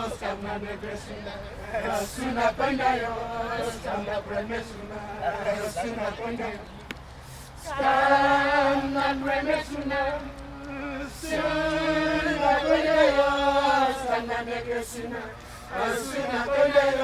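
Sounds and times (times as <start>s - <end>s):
voices chanting: 0.0s - 17.0s.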